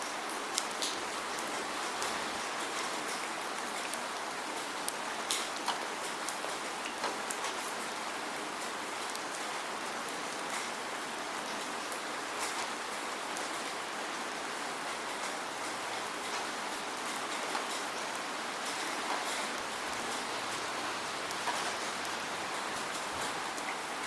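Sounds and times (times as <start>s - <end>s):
raindrops ticking: 0.0s - 13.9s, 14.7s - 24.0s
steady rain hiss: 0.0s - 24.0s.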